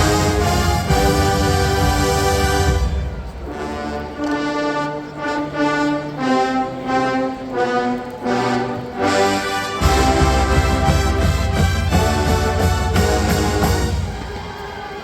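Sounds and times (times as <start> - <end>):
brass section playing chords: 0.0 - 14.5.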